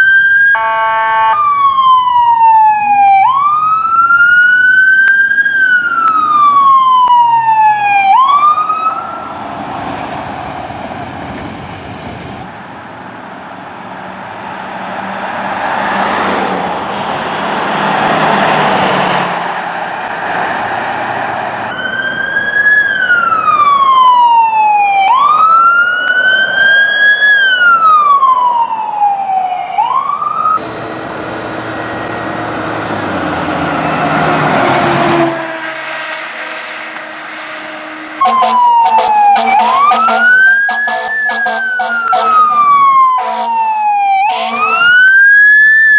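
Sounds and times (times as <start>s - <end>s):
fire engine sirens: 0.0s - 45.9s
truck passing by: 1.5s - 45.9s.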